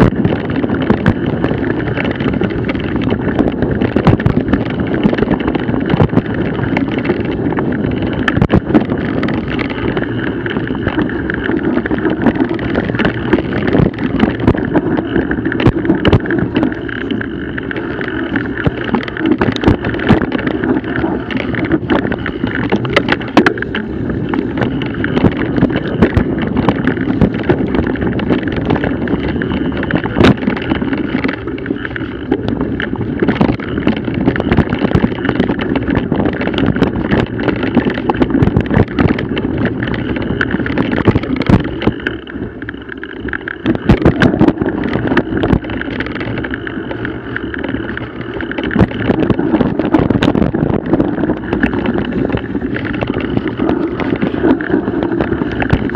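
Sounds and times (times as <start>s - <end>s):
bike tyres rushing over dirt: 0.0s - 55.9s
knocks and rattles from bumps: 0.0s - 55.9s
wind buffeting microphone: 0.0s - 55.9s.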